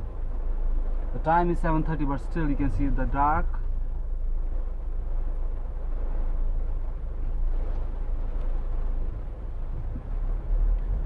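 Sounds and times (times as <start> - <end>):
car engine and wet road rumble: 0.0 - 11.0
hiss of rain and tyres: 0.0 - 11.0.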